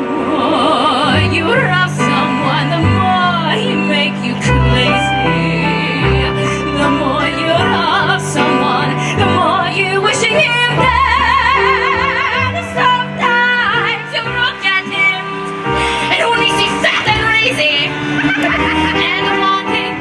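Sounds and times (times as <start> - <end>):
instrumental accompaniment: 0.0 - 20.0
person singing with vibrato: 0.2 - 20.0.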